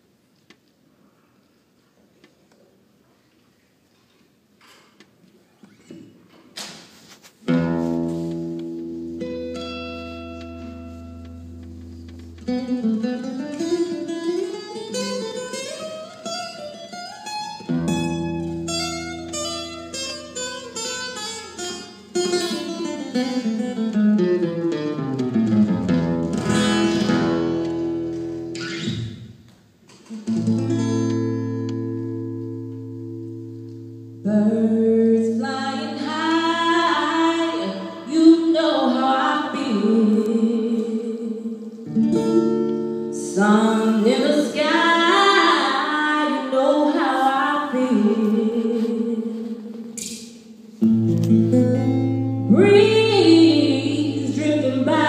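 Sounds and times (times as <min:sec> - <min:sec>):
flamenco acoustic guitar: 0:04.6 - 0:55.0.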